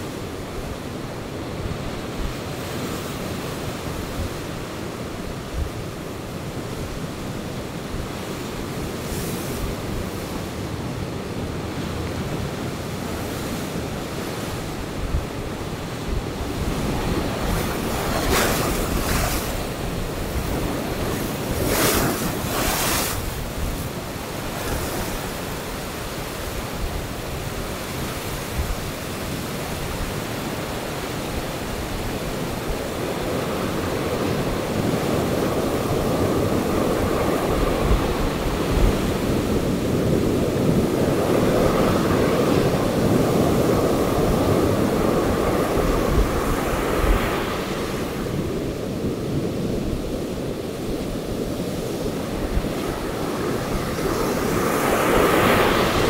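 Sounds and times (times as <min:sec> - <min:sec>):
ocean surf breaking on rocks: 0:00.0 - 0:56.0
wind buffeting microphone: 0:00.0 - 0:56.0.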